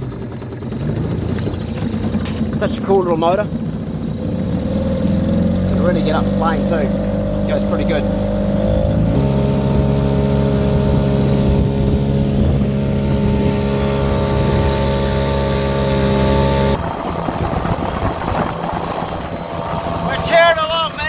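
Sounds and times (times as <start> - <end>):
outboard motor running: 0.0 - 21.0
water and wind noise: 0.0 - 21.0.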